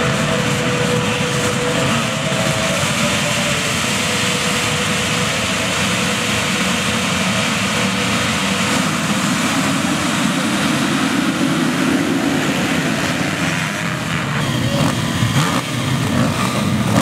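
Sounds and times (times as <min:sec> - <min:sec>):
motocross bikes revving and accelerating: 0:00.0 - 0:17.0.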